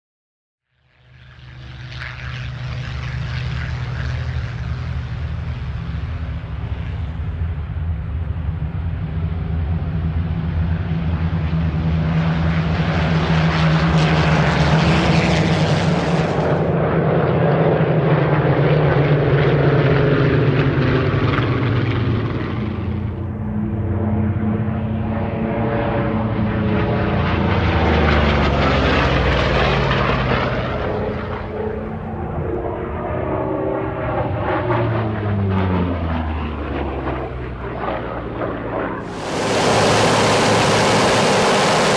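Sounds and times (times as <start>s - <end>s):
propeller plane engines droning: 0.8s - 41.9s.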